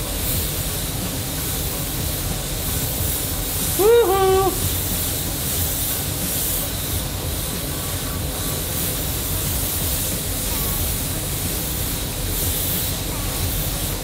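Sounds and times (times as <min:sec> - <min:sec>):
spray gun hissing: 0:00.0 - 0:14.0.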